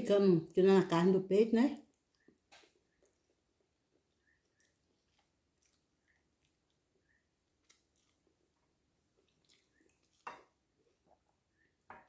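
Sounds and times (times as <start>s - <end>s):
faint chewing of food: 1.8s - 11.9s.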